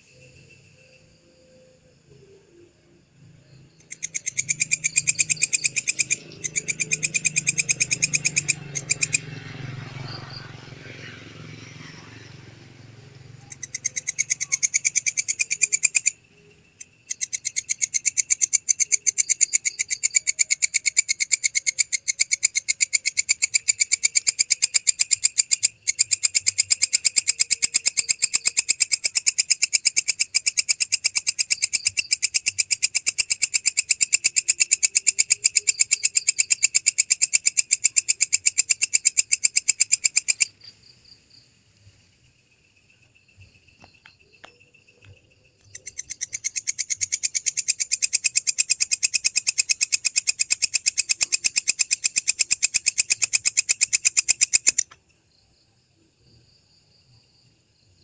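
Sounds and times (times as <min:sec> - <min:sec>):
bush-cricket stridulating: 0:00.0 - 0:58.0.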